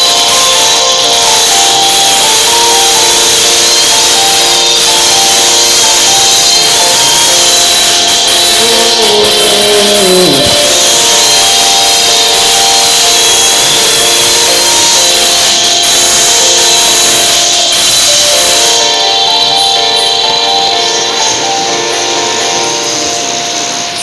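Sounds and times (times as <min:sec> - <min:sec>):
loud music with held notes: 0:00.0 - 0:24.0
sound sliding down in pitch: 0:00.0 - 0:24.0.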